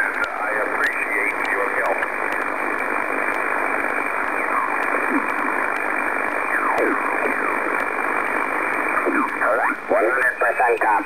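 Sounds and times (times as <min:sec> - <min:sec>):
distorted sideband radio voices: 0:00.0 - 0:11.0
radio band noise hiss: 0:00.0 - 0:11.0.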